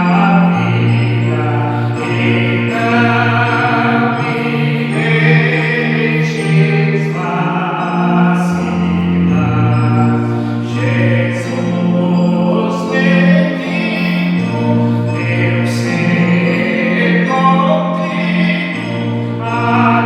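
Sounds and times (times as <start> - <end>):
slow gospel music: 0.0 - 20.0.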